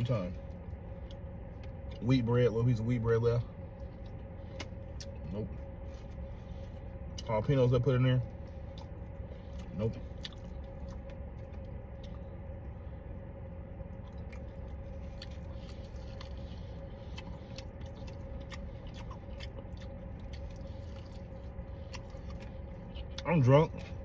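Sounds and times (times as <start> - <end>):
steady low hum: 0.0 - 24.0
man chewing chicken wing: 3.5 - 7.4, 8.2 - 24.0.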